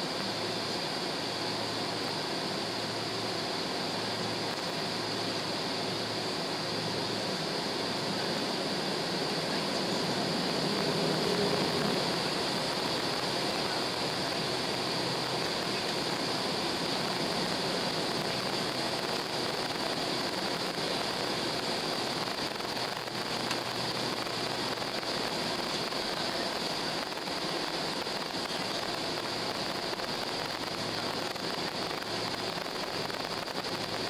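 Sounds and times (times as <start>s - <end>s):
jet engines at low thrust: 0.0s - 34.0s.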